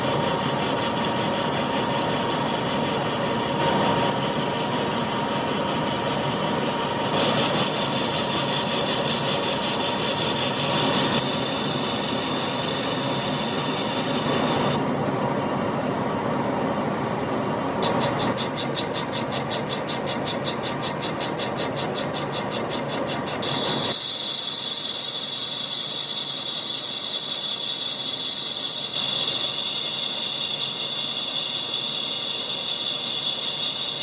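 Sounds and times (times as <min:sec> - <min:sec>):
lathe running with high tone: 0:00.0 - 0:14.8, 0:17.3 - 0:34.0.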